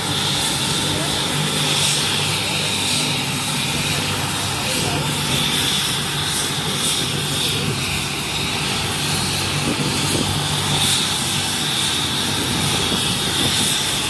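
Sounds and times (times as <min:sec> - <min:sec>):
helicopter engine whine: 0:00.0 - 0:14.0.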